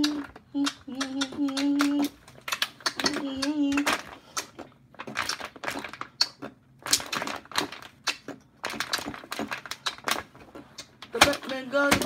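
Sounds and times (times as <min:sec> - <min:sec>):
plastic water bottle crinkling: 0:01.4 - 0:12.0.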